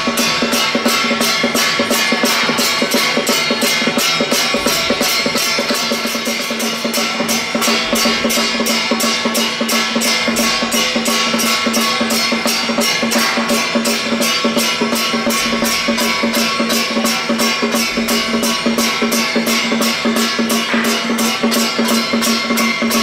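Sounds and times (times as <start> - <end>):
cymbal strokes: 0.0 - 23.0
fast drum strokes: 0.0 - 23.0.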